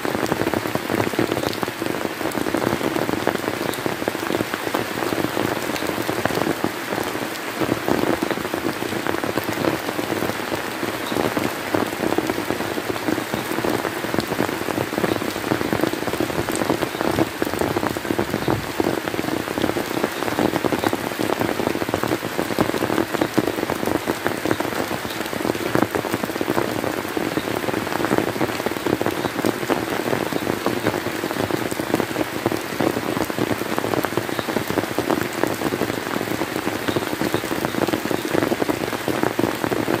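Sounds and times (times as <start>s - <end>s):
rain pattering on surfaces: 0.0s - 40.0s.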